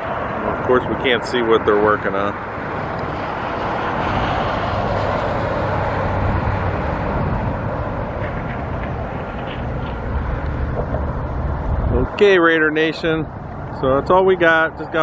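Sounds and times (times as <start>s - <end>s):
motor vehicle rumble and hiss: 0.0s - 15.0s.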